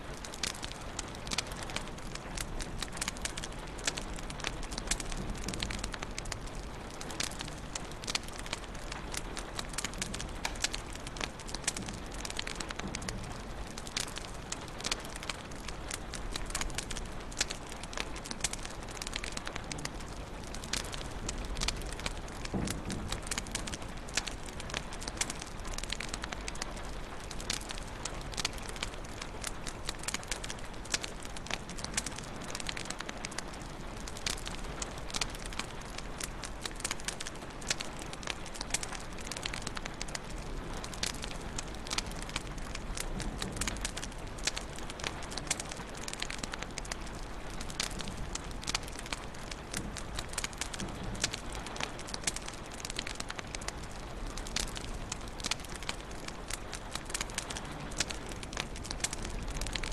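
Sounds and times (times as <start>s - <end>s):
fireplace fire crackling: 0.0s - 59.9s.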